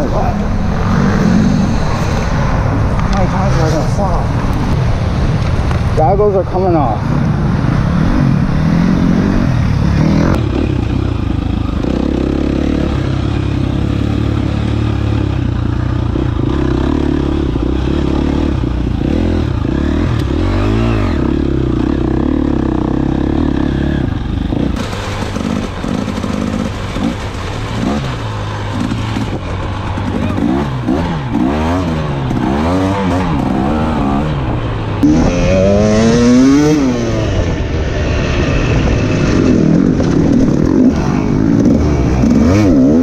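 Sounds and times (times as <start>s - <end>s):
dirt bike engine revving: 0.0s - 4.2s, 6.0s - 43.0s.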